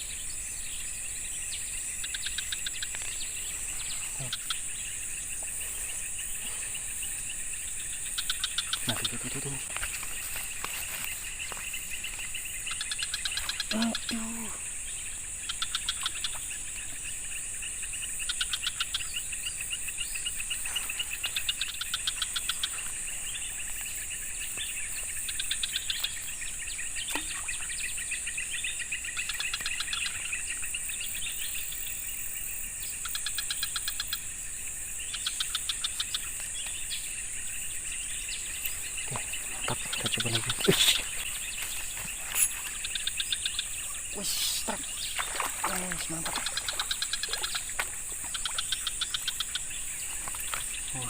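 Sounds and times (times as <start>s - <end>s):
high drone of insects: 0.0s - 51.0s.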